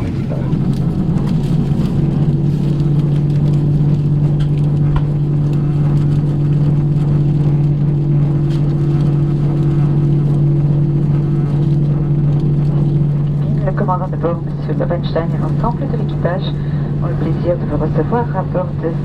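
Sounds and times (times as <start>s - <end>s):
airplane cabin hum: 0.0s - 19.0s.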